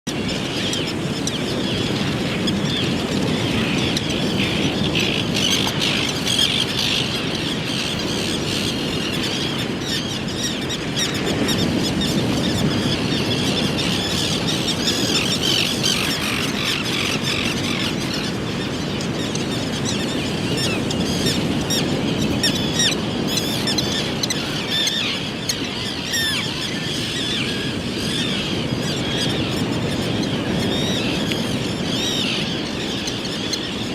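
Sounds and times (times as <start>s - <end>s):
small birds calling: 0.2s - 33.9s.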